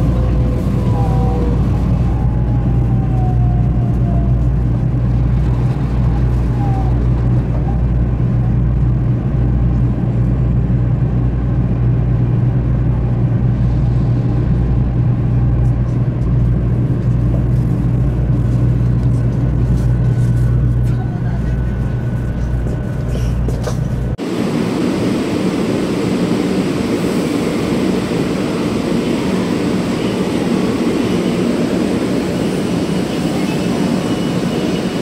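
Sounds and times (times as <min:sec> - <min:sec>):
train low rumble inside cabin: 0:00.0 - 0:35.0.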